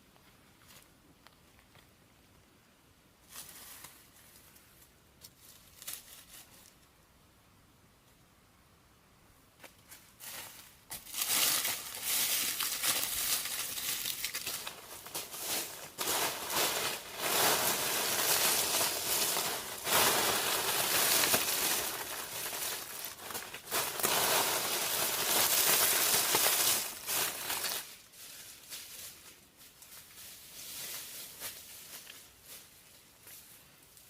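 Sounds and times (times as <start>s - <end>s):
dry plant material rustling: 3.2s - 6.9s, 10.2s - 34.0s.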